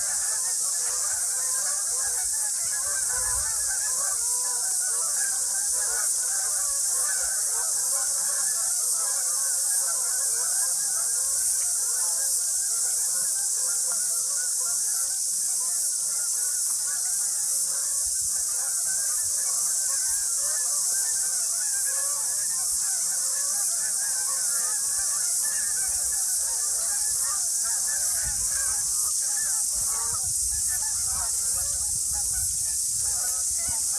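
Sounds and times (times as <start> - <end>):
flock of waterfowl calling: 0.0 - 33.9
steady high hiss: 0.0 - 33.9.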